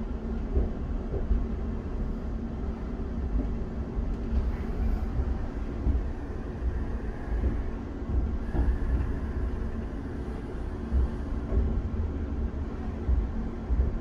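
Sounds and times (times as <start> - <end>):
electrical hum: 0.0 - 14.0
train carriage rumble: 0.0 - 14.0.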